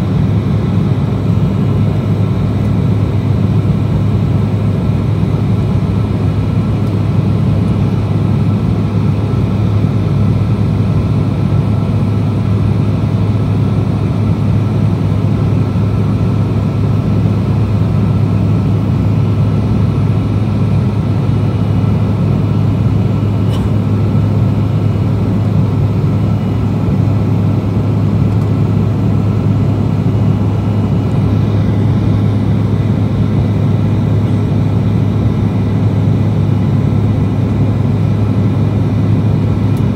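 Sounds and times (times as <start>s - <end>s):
turbofan engines running: 0.0s - 39.9s.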